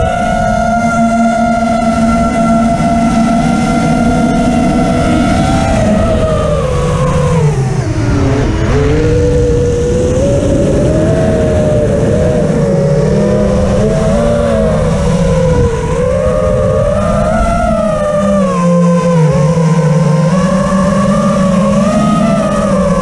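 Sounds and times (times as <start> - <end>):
drone motors whining: 0.0 - 23.0
wind noise: 0.0 - 23.0.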